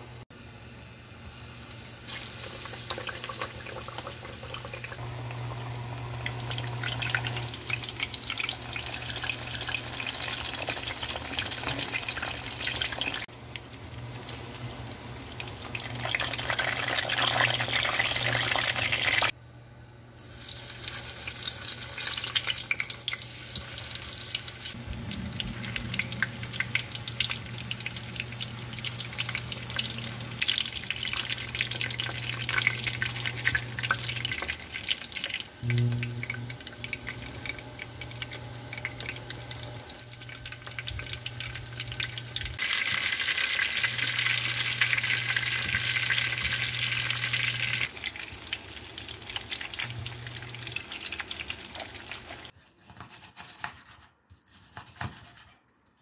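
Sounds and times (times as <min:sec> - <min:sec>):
cutlets sizzling in hot oil: 0:01.2 - 0:19.4, 0:20.2 - 0:52.6.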